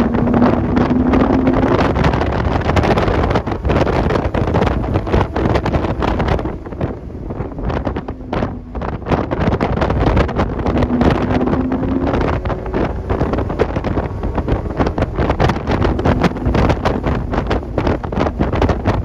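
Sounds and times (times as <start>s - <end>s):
car engine and road noise: 0.0s - 19.0s
wind buffeting microphone: 0.0s - 19.0s.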